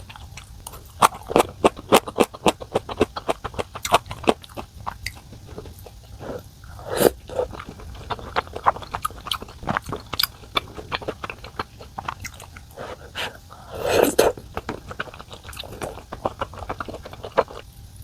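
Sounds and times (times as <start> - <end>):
mouth clicks: 0.0 - 17.6
person chewing food: 0.0 - 17.7.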